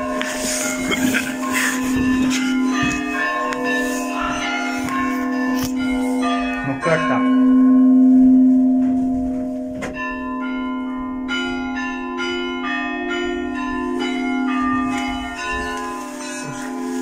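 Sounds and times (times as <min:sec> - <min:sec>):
big bell deep hum: 0:00.0 - 0:17.0
small bells rhythmic ringing: 0:00.0 - 0:17.0.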